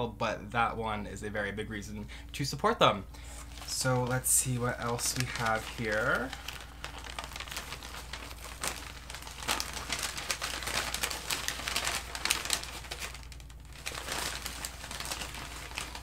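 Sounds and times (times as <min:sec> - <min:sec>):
packing paper crinkling: 0:03.2 - 0:16.0.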